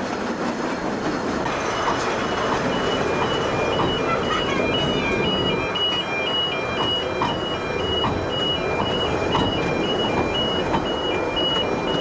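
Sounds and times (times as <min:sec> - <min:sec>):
train rumbling: 0:00.0 - 0:12.0
two-tone warning alarm: 0:01.5 - 0:12.0.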